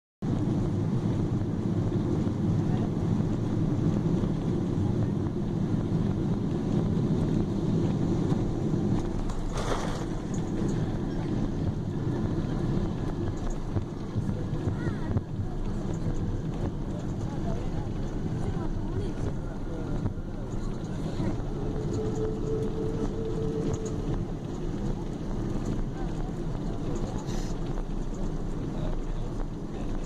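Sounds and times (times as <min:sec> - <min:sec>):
airplane cabin engine rumble: 0:00.2 - 0:30.0.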